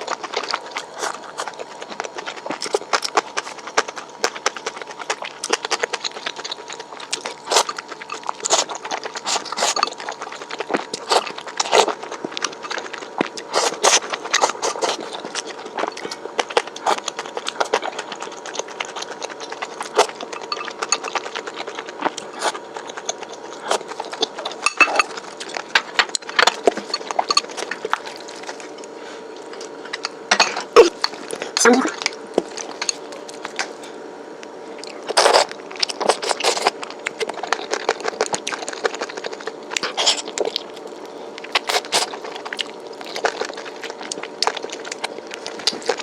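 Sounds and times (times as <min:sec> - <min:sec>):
chewing crunchy food: 0:00.0 - 0:46.0.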